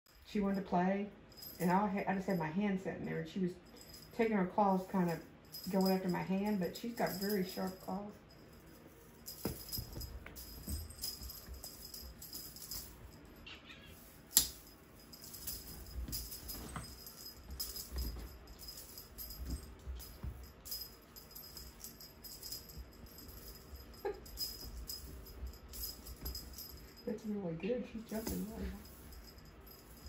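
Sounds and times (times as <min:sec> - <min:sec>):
feather toy jangling: 0:01.3 - 0:02.4, 0:03.5 - 0:30.0.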